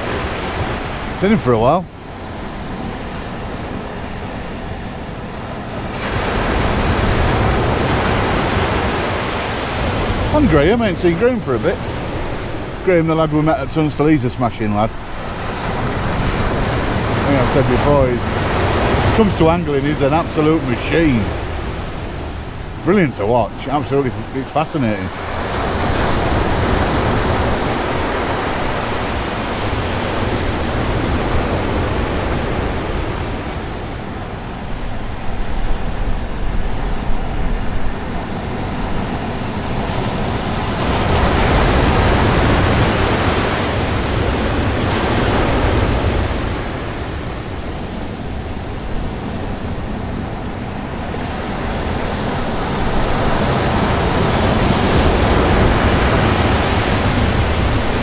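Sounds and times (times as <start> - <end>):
surf breaking on beach: 0.0 - 58.0
wind buffeting microphone: 0.0 - 58.0.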